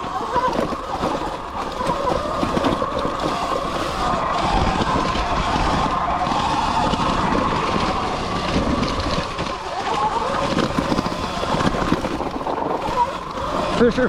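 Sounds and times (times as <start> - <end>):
bike rattling: 0.0 - 14.0
electric motor whine: 0.0 - 14.0
wind noise: 0.0 - 14.0.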